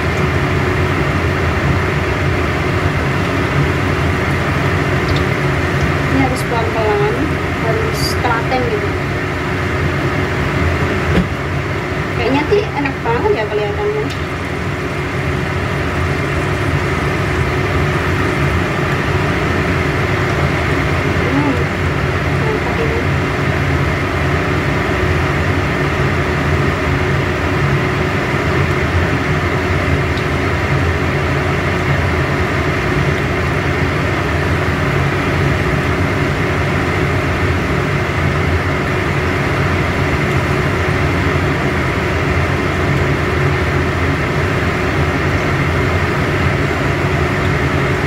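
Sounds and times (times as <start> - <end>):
faint hum: 0.0 - 48.0.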